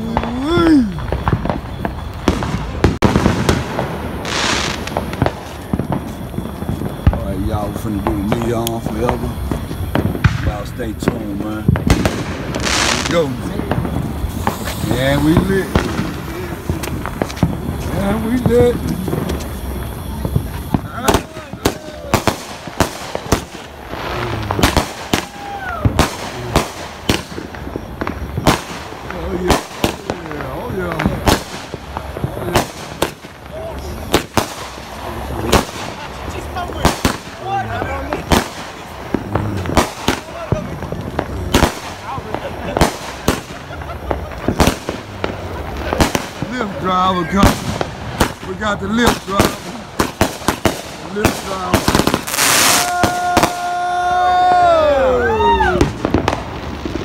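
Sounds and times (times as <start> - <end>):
firework hiss: 0.0 - 57.0
fireworks bangs and pops: 0.0 - 57.0.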